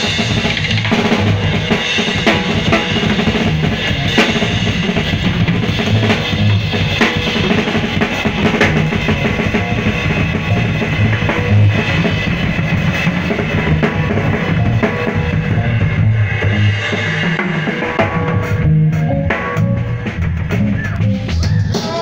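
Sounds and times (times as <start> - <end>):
drum kit solo: 0.0 - 22.0.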